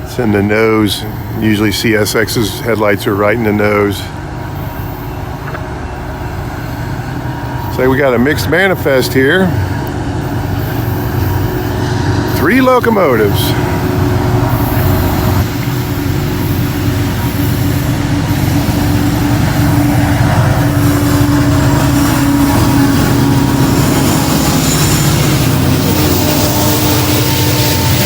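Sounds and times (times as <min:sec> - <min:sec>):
diesel locomotives running past: 0:00.0 - 0:28.0.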